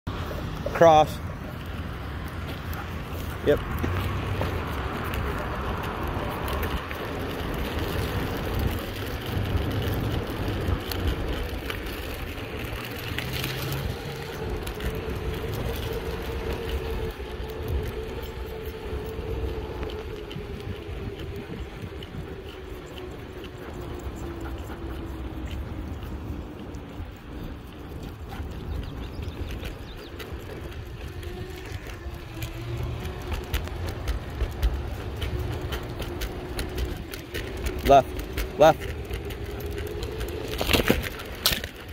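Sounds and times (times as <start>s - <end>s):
wheels rolling over pavement: 0.1s - 41.9s.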